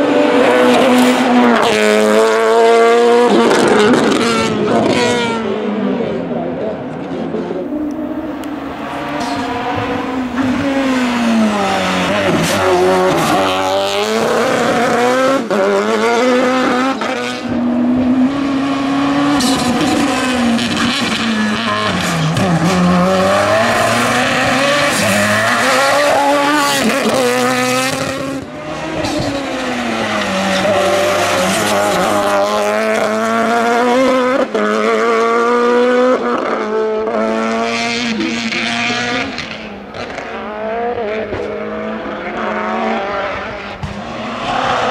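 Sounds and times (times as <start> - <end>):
race car engine at full throttle: 0.0 - 44.9.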